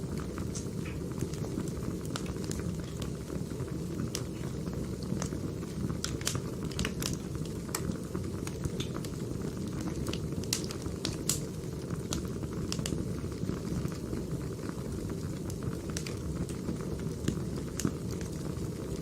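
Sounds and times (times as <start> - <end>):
fire rumbling: 0.0 - 19.0.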